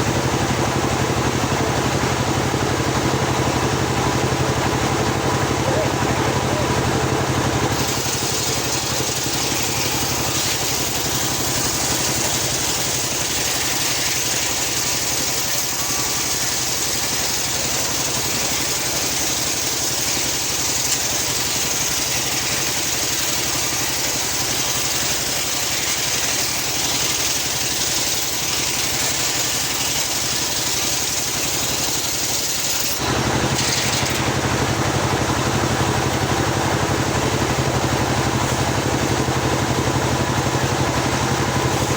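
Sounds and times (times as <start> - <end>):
engine drone: 0.0 - 41.9
saw blade cutting log: 5.4 - 41.9.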